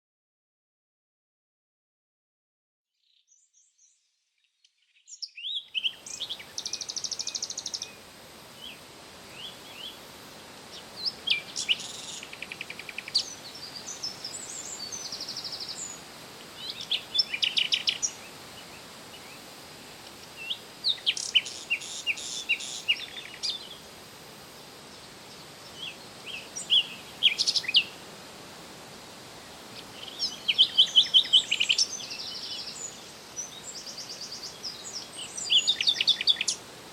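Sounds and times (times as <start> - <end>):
songbird singing: 3.0 - 28.1, 29.4 - 36.9
steady background hiss: 5.0 - 36.9.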